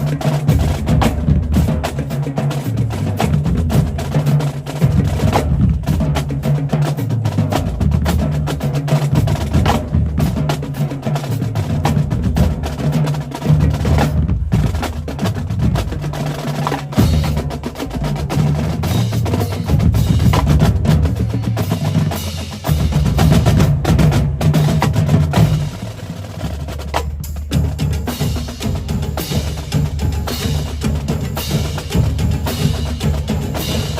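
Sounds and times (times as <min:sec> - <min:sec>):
bass drums: 0:00.0 - 0:33.9
snare drum strokes: 0:00.0 - 0:33.9.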